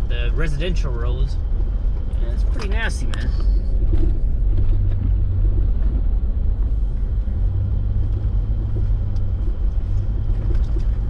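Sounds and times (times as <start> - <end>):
vehicle engine and tyre rumble: 0.0 - 11.0.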